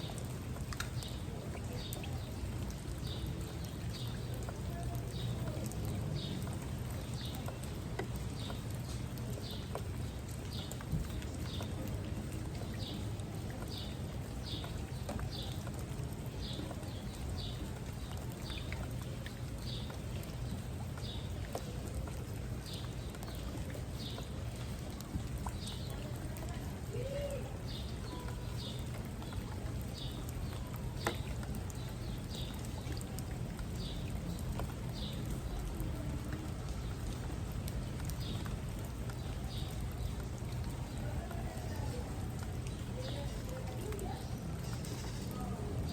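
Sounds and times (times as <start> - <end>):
steady rainfall: 0.0 - 45.9.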